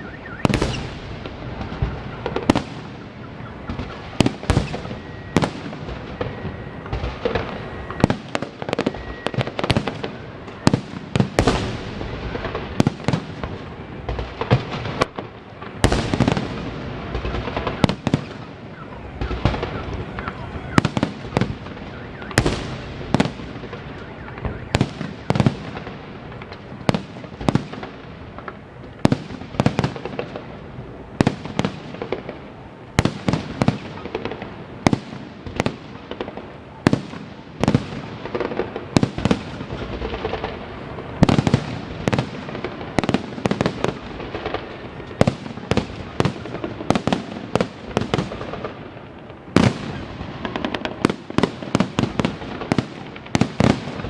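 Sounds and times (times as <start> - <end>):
rumble and crackle: 0.0 - 10.6, 11.3 - 31.2, 38.2 - 51.7.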